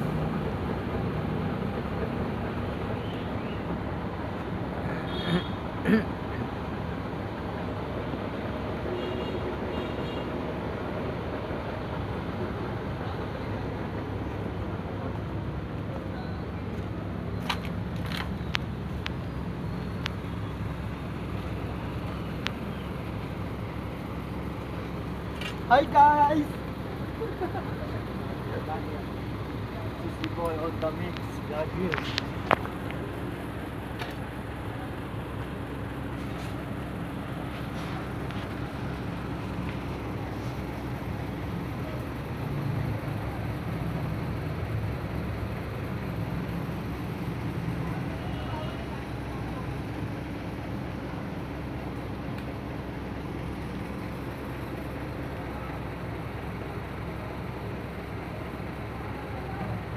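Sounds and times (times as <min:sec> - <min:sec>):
engine idling hum: 0:00.0 - 0:59.9.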